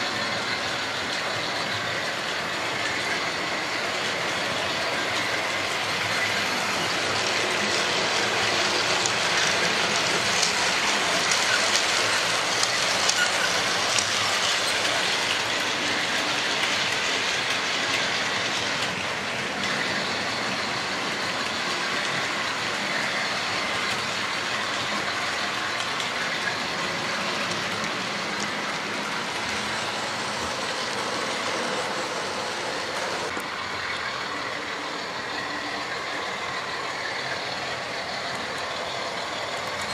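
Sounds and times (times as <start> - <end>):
small wheels rattling on rails: 0.0 - 39.9.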